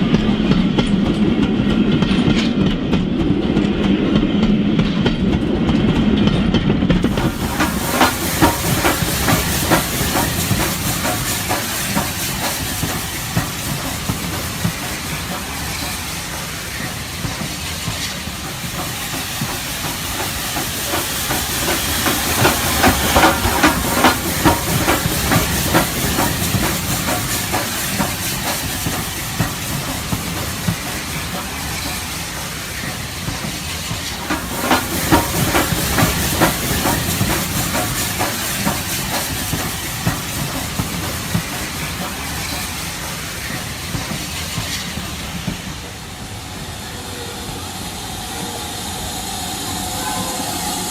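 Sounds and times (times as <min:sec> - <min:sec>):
model steam train running: 0:00.0 - 0:50.9.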